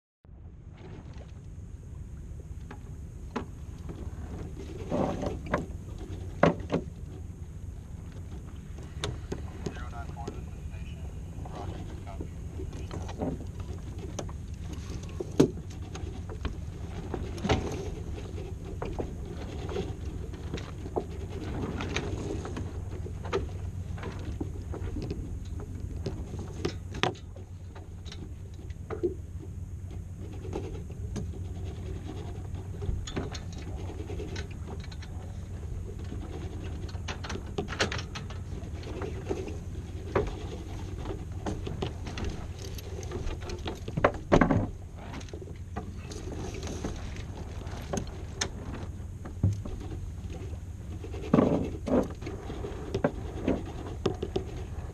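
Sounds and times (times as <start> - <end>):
wind and water rumble: 0.2 - 54.9.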